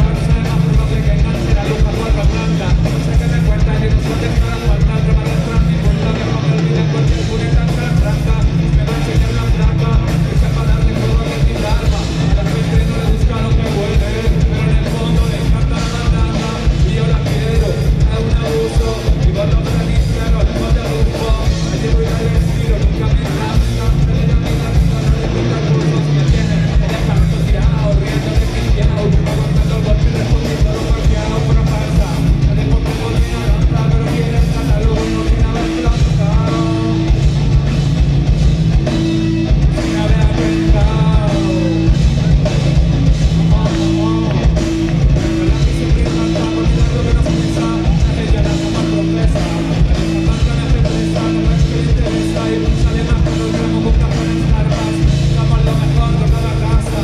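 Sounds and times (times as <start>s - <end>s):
person singing: 0.0s - 37.7s, 38.8s - 57.0s
drum kit: 0.0s - 57.0s
electric guitars: 0.0s - 57.0s.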